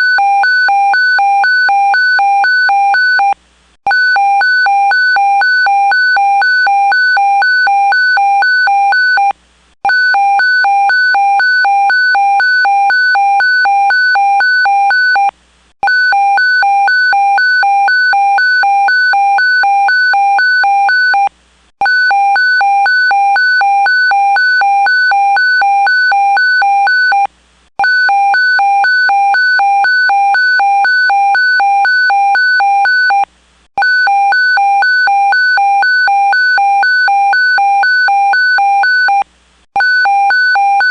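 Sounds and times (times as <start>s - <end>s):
rapidly pulsing alarm beep: 0.0s - 40.9s.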